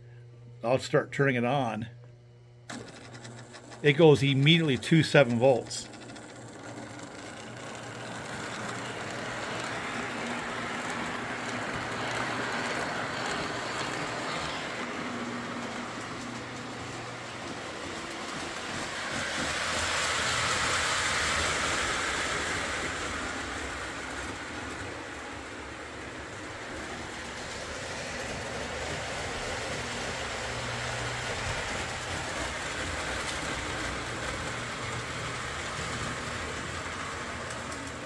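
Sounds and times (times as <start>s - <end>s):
model train rumbling on track: 2.7s - 38.0s.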